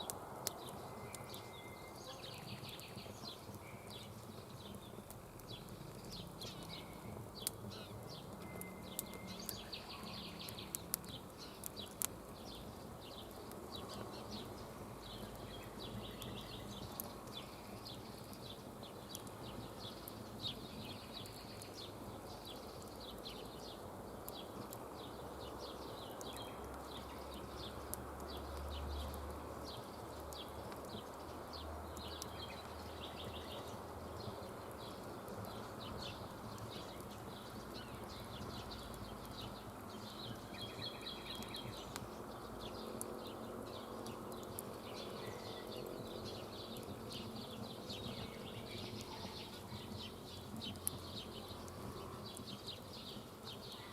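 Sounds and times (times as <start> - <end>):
fire pops: 0.0 - 1.4, 2.6 - 53.8
campfire crackling: 0.0 - 53.9.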